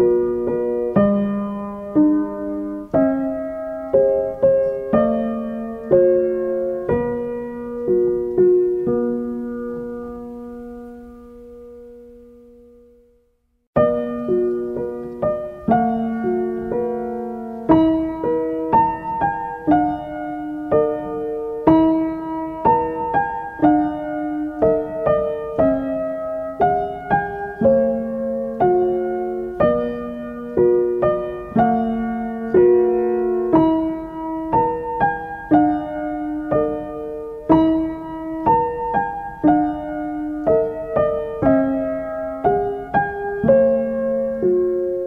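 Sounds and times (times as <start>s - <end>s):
gentle piano melody: 0.0s - 45.0s.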